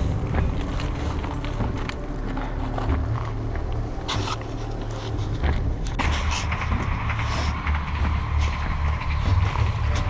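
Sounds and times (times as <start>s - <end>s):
footsteps through a field: 0.0s - 10.0s
steady low rumble: 0.0s - 10.0s.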